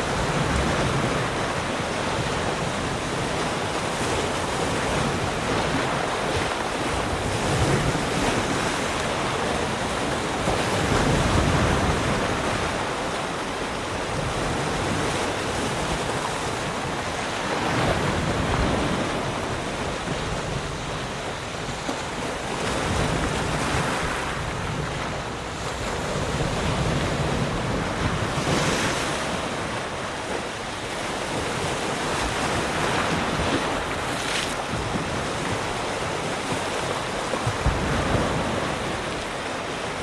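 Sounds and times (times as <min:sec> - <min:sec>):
waves washing against rocks: 0:00.0 - 0:40.0
wind buffeting microphone: 0:00.0 - 0:40.0.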